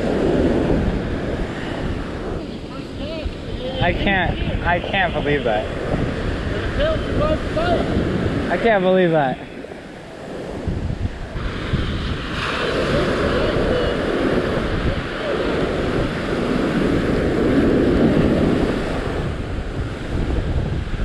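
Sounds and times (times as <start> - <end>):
surf breaking on beach: 0.0 - 21.0
wind buffeting microphone: 0.0 - 21.0.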